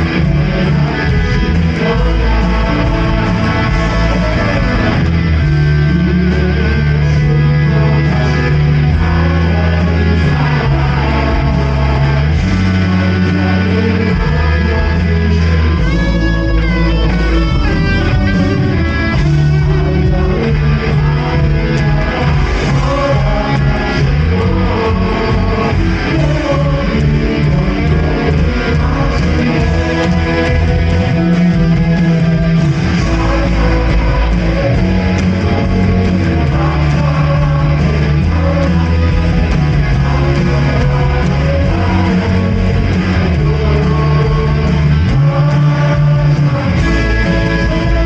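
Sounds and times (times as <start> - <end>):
bass line: 0.0 - 48.0
lead guitar: 0.0 - 48.0.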